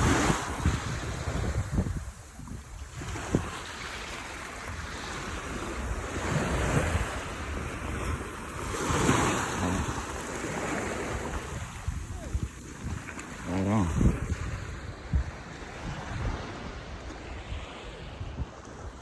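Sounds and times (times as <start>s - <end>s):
water surging against docks: 0.0s - 17.9s
wind rumbling on microphone: 0.0s - 19.0s.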